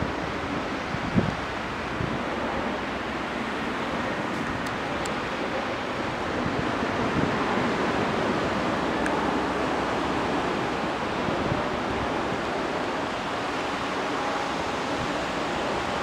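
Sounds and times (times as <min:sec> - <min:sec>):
ocean surf rushing: 0:00.0 - 0:16.0
wind: 0:00.0 - 0:16.0.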